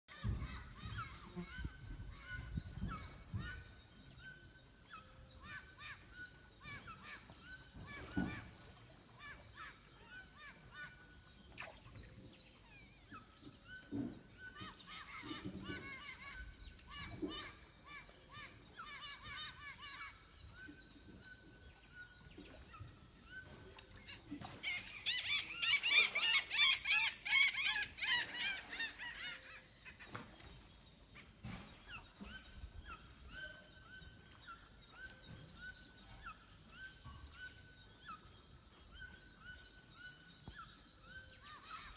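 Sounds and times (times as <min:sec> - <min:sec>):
birds calling: 0:00.1 - 0:41.9.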